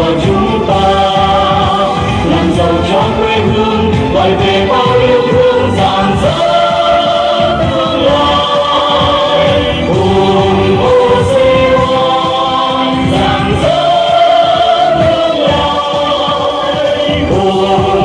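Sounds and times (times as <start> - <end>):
choir singing held notes: 0.0 - 18.0
loud music: 0.0 - 18.0.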